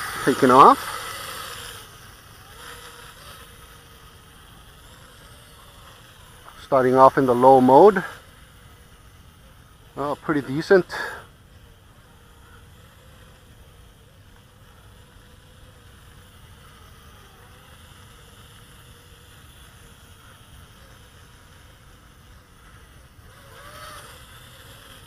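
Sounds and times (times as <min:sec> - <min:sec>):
mini quadcopter whine: 0:00.0 - 0:25.0.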